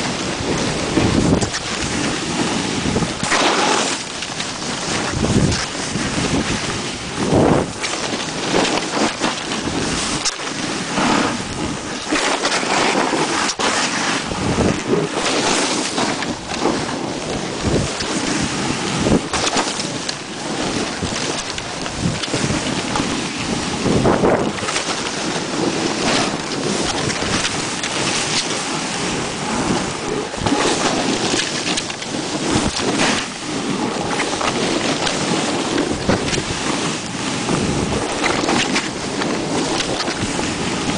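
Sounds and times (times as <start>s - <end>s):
snowboard edge scraping snow: 0.0s - 40.9s
wind rushing over microphone: 0.0s - 40.9s.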